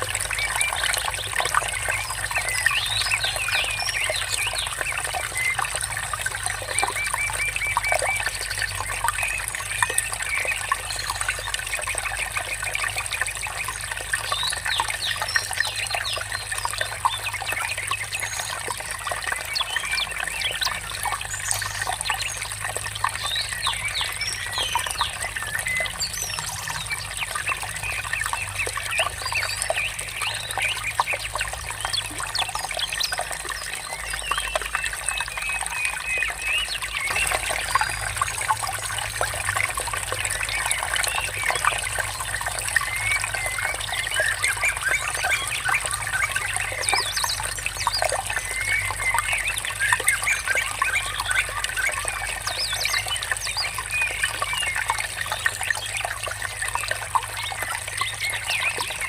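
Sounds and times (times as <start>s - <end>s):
water trickling: 0.0s - 59.0s
birds chirping: 0.2s - 56.0s.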